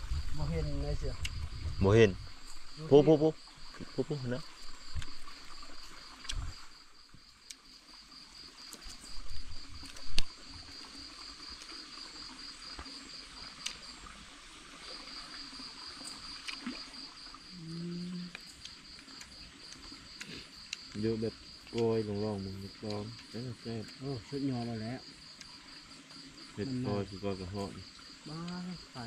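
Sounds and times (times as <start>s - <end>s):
insect trilling: 0.0s - 29.0s.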